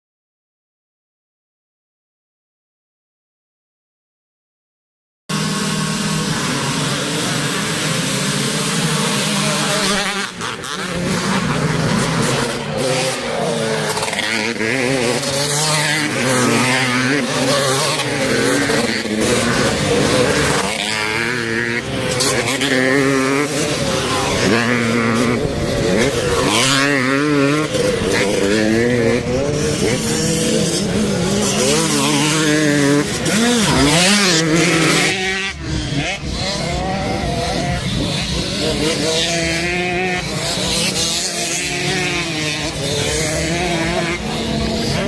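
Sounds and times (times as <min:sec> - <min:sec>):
dirt bike engines revving: 0:05.3 - 0:45.0.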